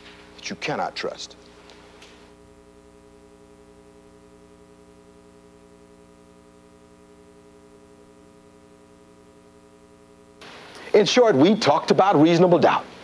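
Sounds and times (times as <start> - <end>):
faint steady hum of tones: 0.0 - 13.0.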